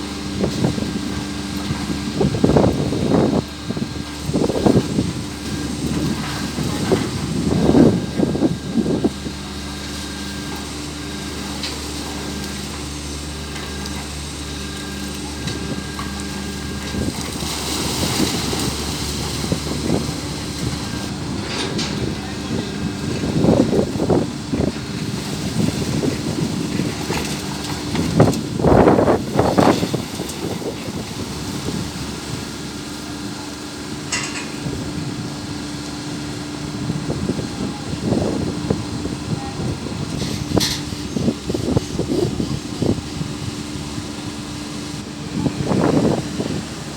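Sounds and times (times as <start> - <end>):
engine running steadily: 0.0 - 46.9
wind noise on microphone: 0.0 - 46.9.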